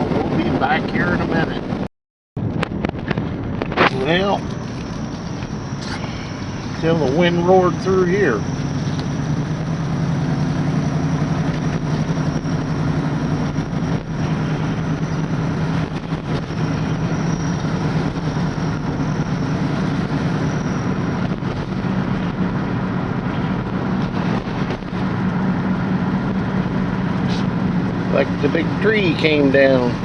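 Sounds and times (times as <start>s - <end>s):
road noise: 0.0s - 30.0s
vehicle engine hum: 0.0s - 30.0s.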